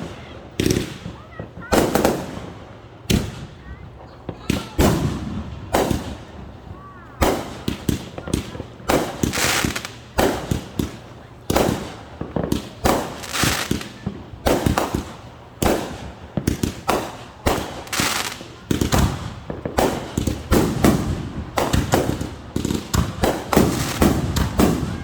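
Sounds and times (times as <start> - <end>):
fireworks bangs: 0.0 - 25.0
fireworks crackle and hiss: 0.0 - 25.0.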